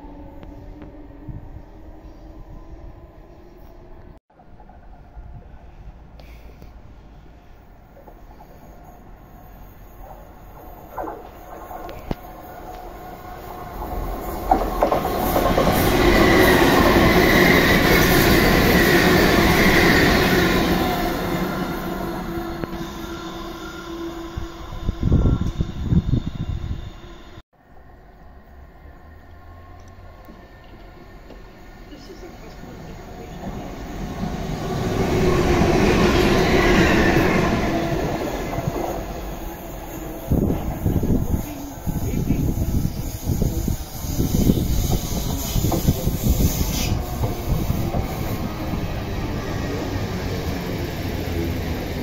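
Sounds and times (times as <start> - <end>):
train wheels rumbling on rail: 4.4 - 27.4, 29.7 - 52.0.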